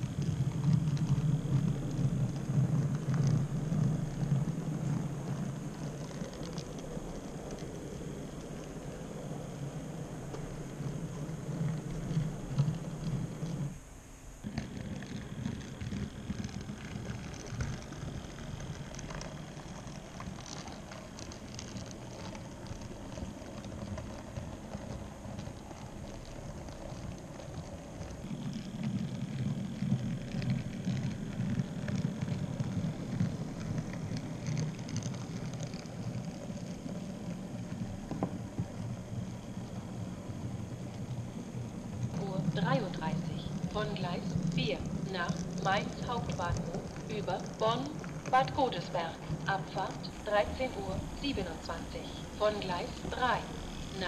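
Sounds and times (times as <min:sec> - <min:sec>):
model train wheels rumbling: 0:00.0 - 0:54.0
wheels clicking over rail joints: 0:00.0 - 0:54.0.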